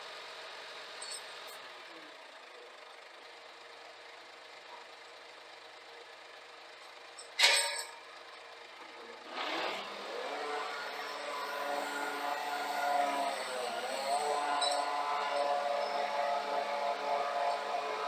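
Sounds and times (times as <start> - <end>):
truck engine running: 0.1 - 18.0.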